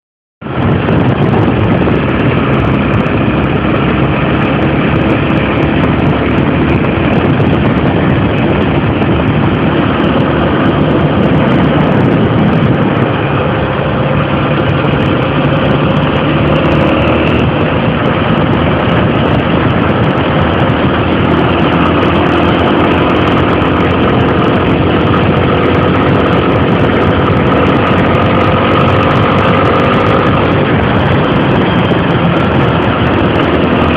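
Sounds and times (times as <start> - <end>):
dense rushing noise: 0.4 - 33.9
motorcycle engine running: 0.4 - 33.9.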